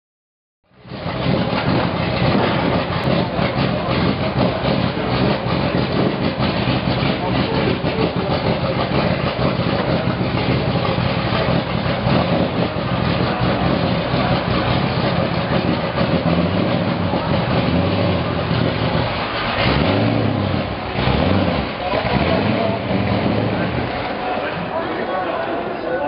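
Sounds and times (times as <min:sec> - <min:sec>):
race car engine idling: 0:00.7 - 0:26.0.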